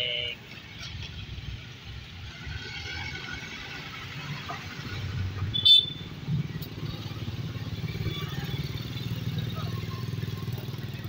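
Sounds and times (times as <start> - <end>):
motorcycles passing: 0.0 - 11.0.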